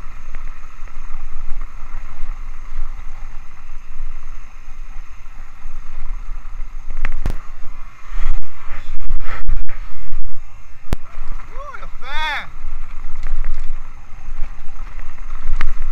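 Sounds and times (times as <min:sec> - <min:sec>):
mountain bike rumbling and rattling: 0:00.0 - 0:15.9
wind buffeting microphone: 0:00.0 - 0:15.9.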